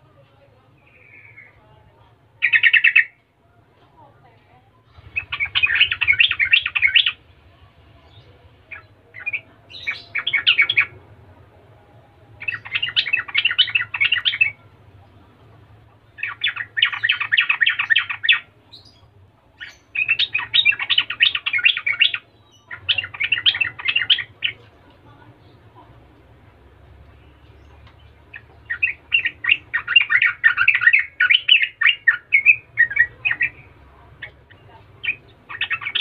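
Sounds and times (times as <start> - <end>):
bulbul chattering song: 0.7 - 3.3, 4.8 - 36.0.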